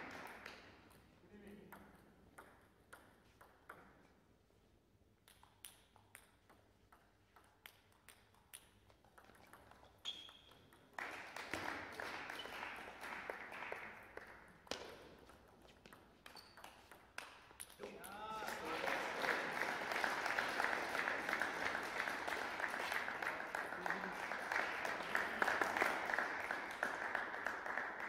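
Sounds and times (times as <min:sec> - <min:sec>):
background noise: 0:00.0 - 0:28.0.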